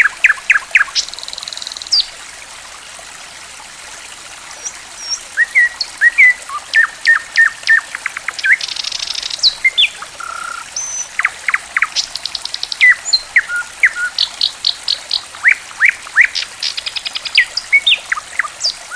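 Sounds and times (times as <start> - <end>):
songbird singing: 0.0 - 2.1, 4.6 - 18.9
running water trickling: 0.0 - 18.9.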